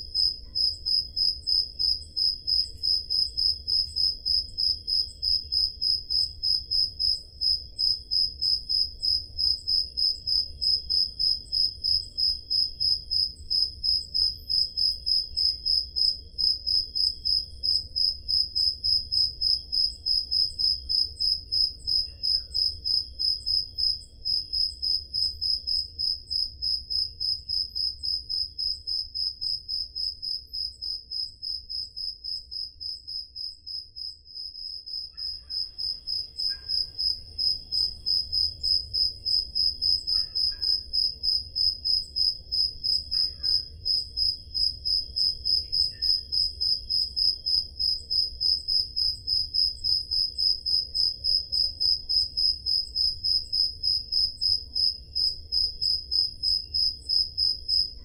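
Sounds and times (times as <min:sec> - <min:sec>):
fainter lower cricket chirping: 0:00.0 - 0:58.0
loud cricket chirping: 0:00.0 - 0:58.0.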